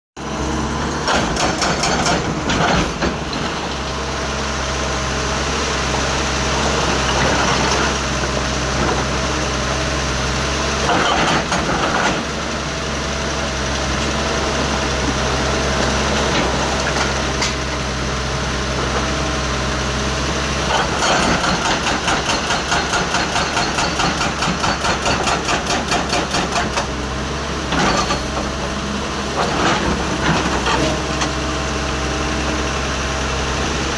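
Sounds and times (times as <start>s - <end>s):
excavator engine running: 0.2s - 33.9s.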